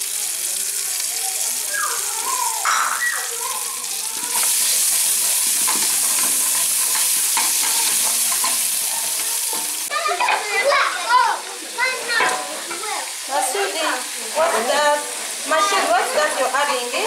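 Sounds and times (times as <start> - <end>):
spice paste sizzling in pot: 0.0 - 10.0, 11.4 - 17.0.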